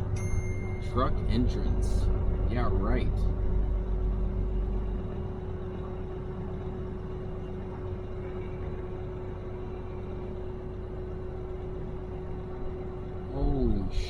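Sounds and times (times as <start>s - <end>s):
constant steady hum: 0.0s - 14.0s.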